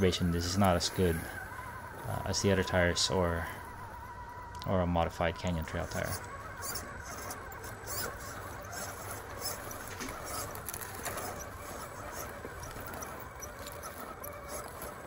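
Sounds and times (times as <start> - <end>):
electric motor whine: 0.0 - 15.0
tires crunching over dirt: 0.0 - 15.0.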